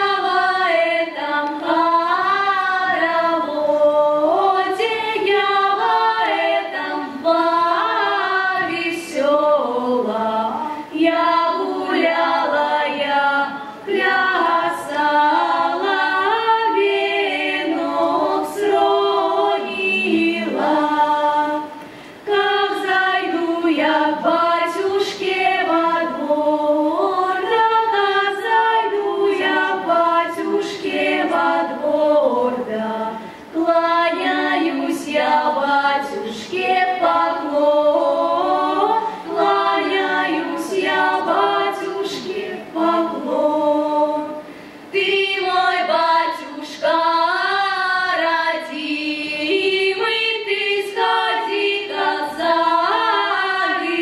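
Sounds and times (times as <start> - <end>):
girls singing a cappella: 0.0 - 54.0.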